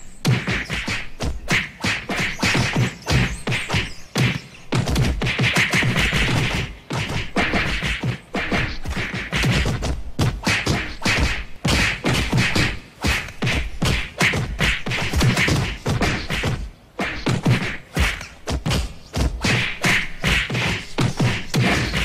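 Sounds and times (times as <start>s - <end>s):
cartoon punch and whack hits: 0.2s - 22.0s.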